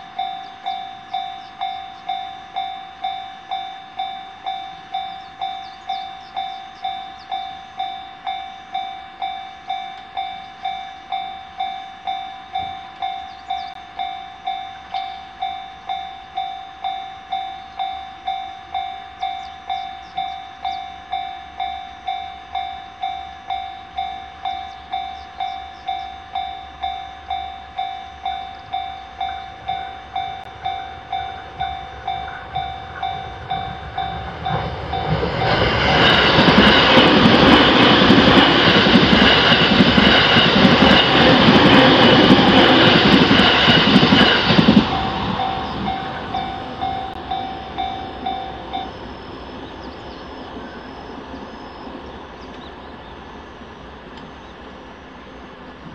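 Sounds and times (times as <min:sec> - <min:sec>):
level-crossing electronic bell: 0:00.0 - 0:51.9
train wheels rushing on rails: 0:00.0 - 0:55.9.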